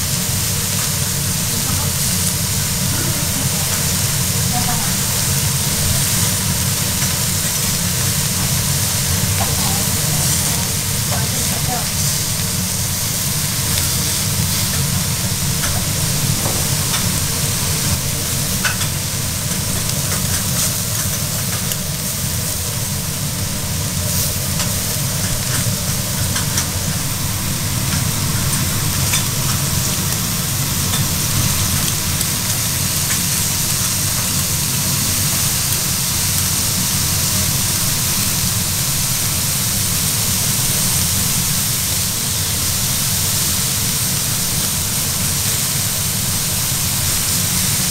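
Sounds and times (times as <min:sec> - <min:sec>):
steady low hum: 0:00.0 - 0:39.2
meat sizzling on a griddle: 0:00.0 - 0:47.9.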